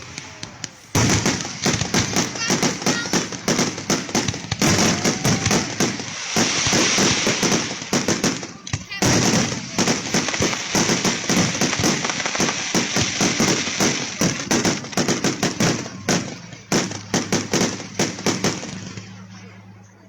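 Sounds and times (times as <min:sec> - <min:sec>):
fireworks banging: 0:00.0 - 0:19.4.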